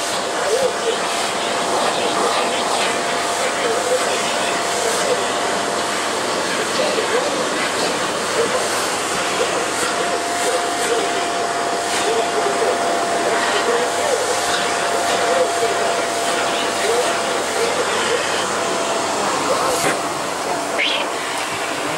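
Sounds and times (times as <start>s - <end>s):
vacuum cleaner whining: 0.0s - 21.9s.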